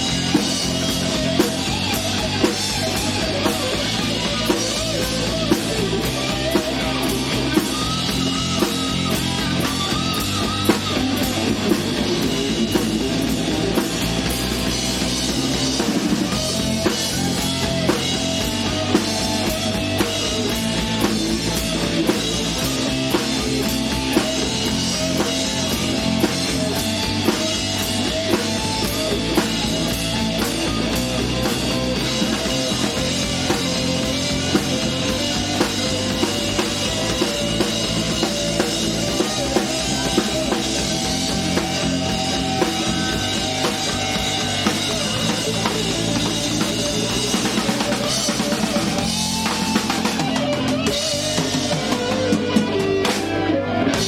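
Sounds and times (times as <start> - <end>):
bass guitar: 0.0 - 54.0
drum kit beat: 0.0 - 54.0
electric guitar: 0.0 - 54.0.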